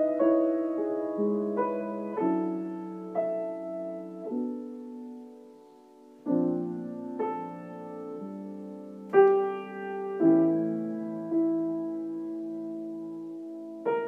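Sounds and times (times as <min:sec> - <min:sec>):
soft piano chords ringing: 0:00.0 - 0:14.0.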